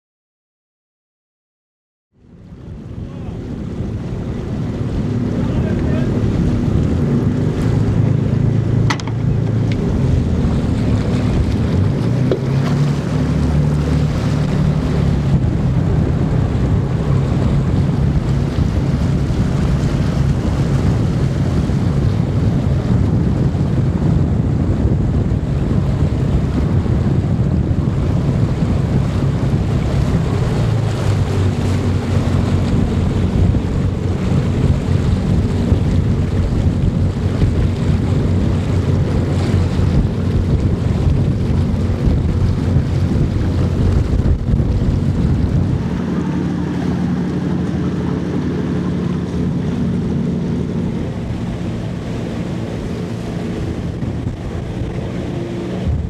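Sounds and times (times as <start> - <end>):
boat engine running: 2.1 - 56.0
choppy water rushing: 2.2 - 56.0
wind buffeting microphone: 2.2 - 56.0.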